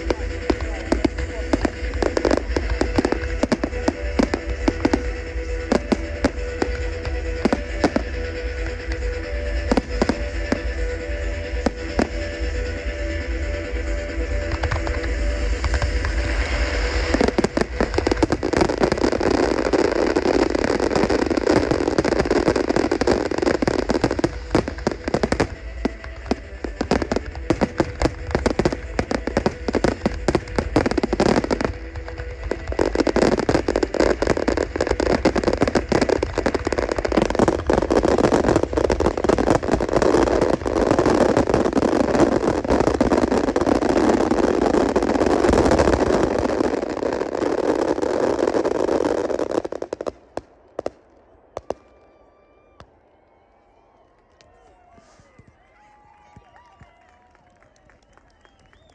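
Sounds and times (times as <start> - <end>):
fireworks bangs and crackling: 0.0 - 53.4, 54.7 - 58.9.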